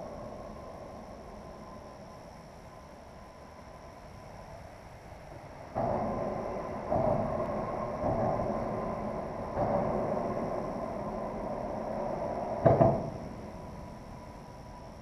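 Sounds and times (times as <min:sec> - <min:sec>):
traffic rumble on bridge: 0:00.0 - 0:15.0.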